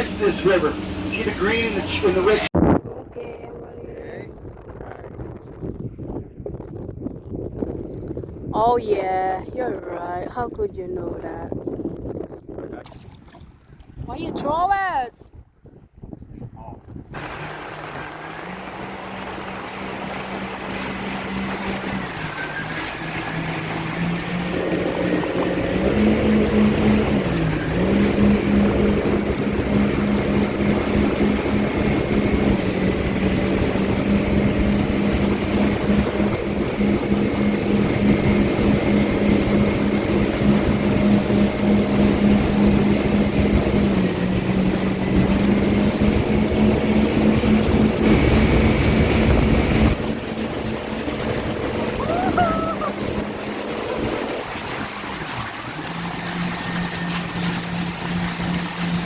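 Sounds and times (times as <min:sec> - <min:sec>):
boat engine droning: 0:00.0 - 0:12.4, 0:17.1 - 0:59.0.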